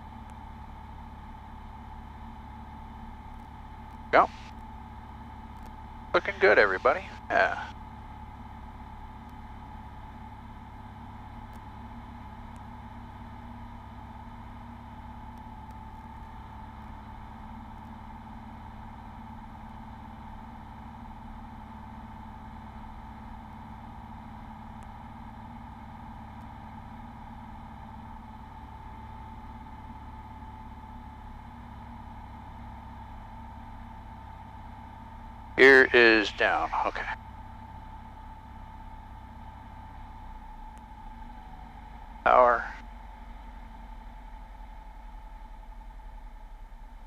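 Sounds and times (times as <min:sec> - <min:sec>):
propeller plane engine droning: 0:00.0 - 0:47.0.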